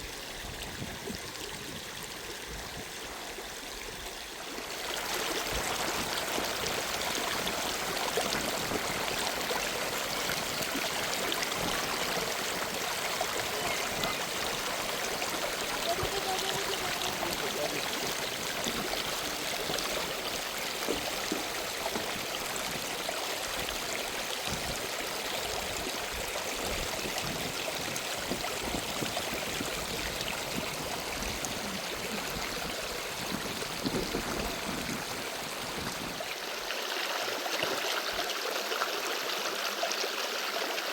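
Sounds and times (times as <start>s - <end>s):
stream of water running: 0.0s - 40.9s.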